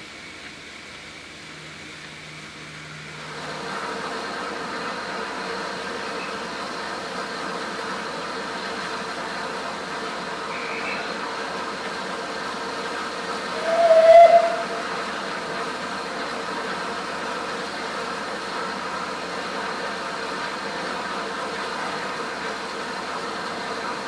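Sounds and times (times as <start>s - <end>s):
steam locomotive rushing steam: 0.0s - 24.0s.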